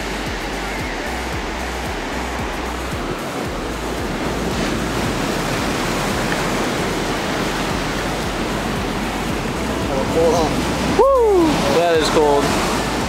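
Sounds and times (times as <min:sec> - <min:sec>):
ocean surf washing on beach: 0:00.0 - 0:13.0.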